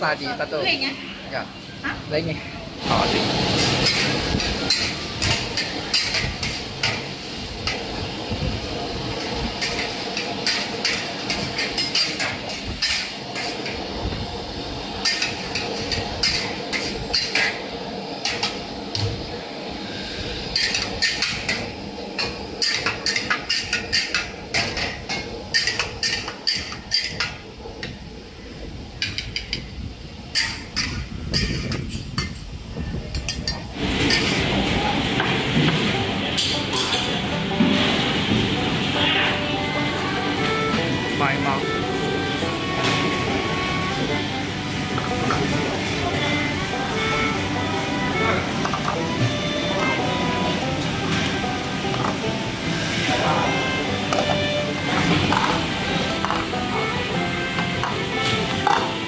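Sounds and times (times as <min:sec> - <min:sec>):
gas burner roaring: 0:00.0 - 0:59.0.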